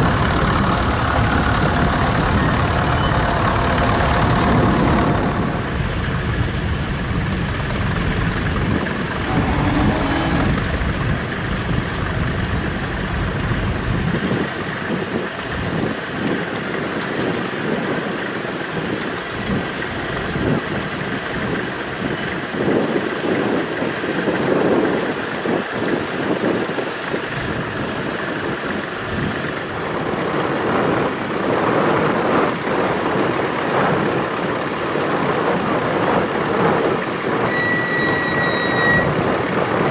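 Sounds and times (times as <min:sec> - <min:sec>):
steady rushing background noise: 0:00.0 - 0:39.9
tractor engine rumbling: 0:00.0 - 0:39.9.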